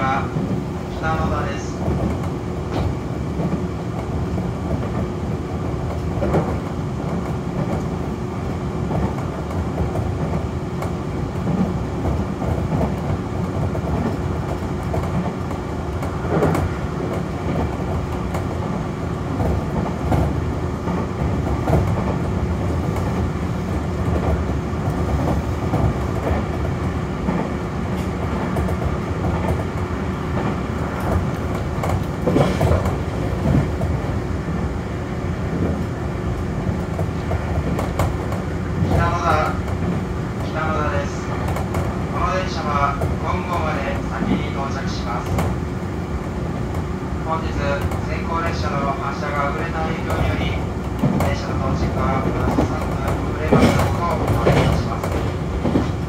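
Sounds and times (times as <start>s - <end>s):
rail-joint clacks: 0.0s - 34.6s, 35.5s - 56.0s
train wheels rumbling on rail: 0.0s - 56.0s.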